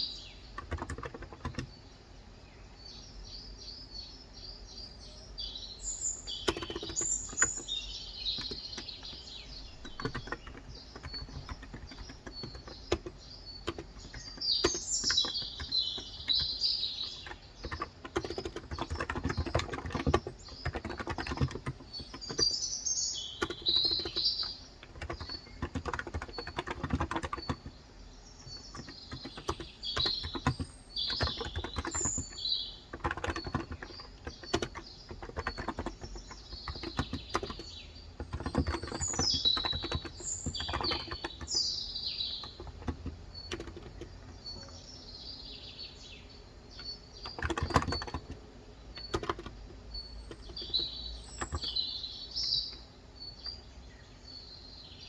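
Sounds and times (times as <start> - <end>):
keyboard typing: 0.0 - 1.8, 6.2 - 44.9, 46.7 - 52.9
birds chirping: 0.0 - 55.0.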